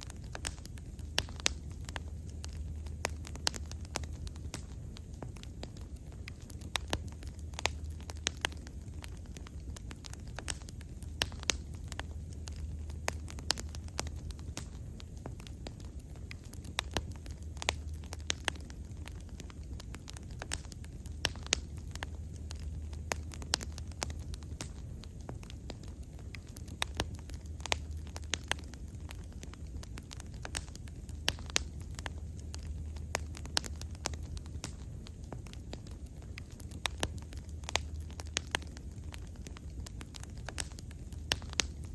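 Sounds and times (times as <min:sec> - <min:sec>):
bonfire pops and crackles: 0:00.0 - 0:41.9
low rumble of flames: 0:00.0 - 0:41.9.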